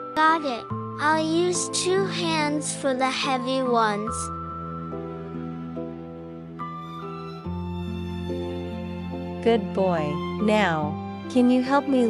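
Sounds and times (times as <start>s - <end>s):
soft slow background music: 0.0s - 12.0s.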